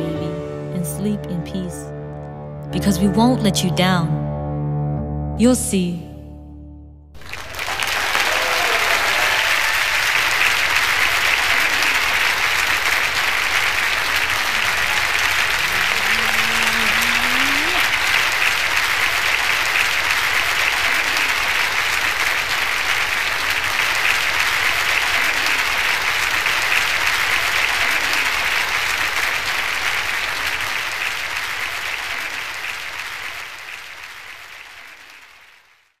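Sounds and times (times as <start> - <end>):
large audience applauding: 7.2 - 36.0.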